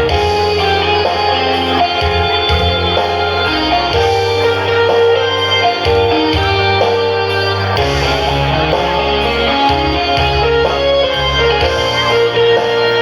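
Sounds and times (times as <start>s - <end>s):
bass line: 0.0s - 13.0s
electric guitar band music: 0.0s - 13.0s.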